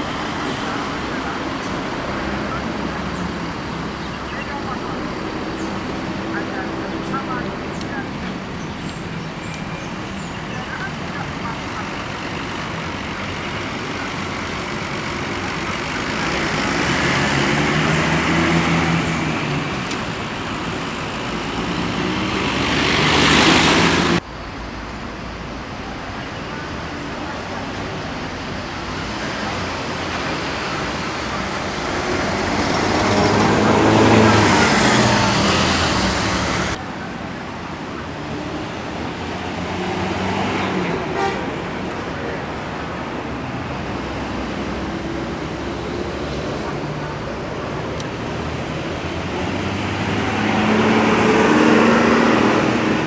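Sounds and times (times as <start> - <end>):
buses driving past: 0.0 - 53.0.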